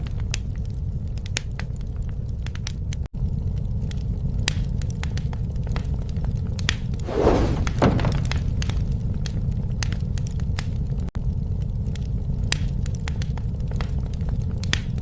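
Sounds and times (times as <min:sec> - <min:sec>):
fire popping and crackling: 0:00.0 - 0:15.0
wood fire rumbling: 0:00.0 - 0:15.0.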